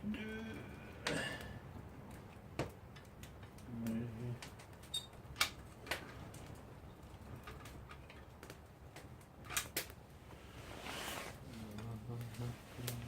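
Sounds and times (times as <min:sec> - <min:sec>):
campfire wood crackling: 0:00.0 - 0:13.0
sharp pops of burning wood: 0:00.7 - 0:10.6, 0:11.3 - 0:13.0.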